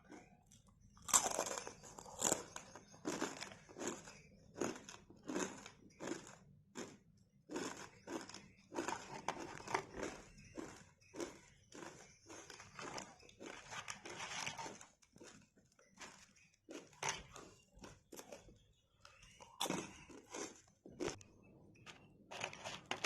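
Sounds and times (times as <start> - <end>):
crunchy snack being chewed: 0.0 - 18.5, 19.1 - 21.3.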